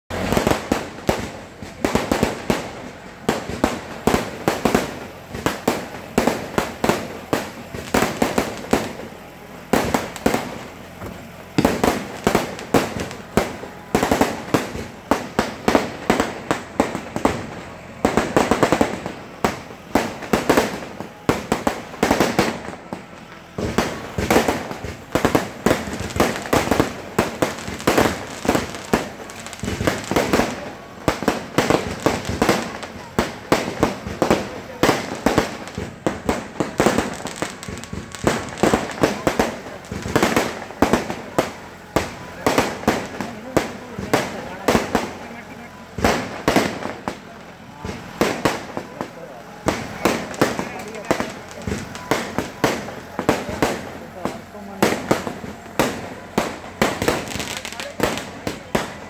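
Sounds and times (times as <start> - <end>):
fireworks banging: 0.1 - 59.0.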